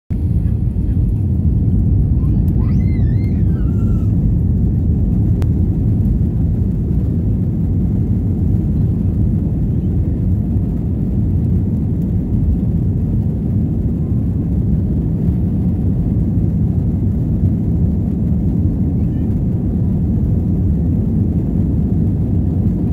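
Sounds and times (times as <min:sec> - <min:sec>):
jet engines and rolling wheels rumble: 0:00.1 - 0:22.9.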